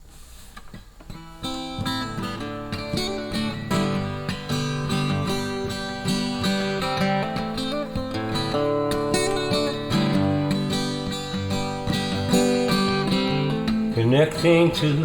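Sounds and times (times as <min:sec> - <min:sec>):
acoustic guitar strumming chords: 0:00.8 - 0:15.0.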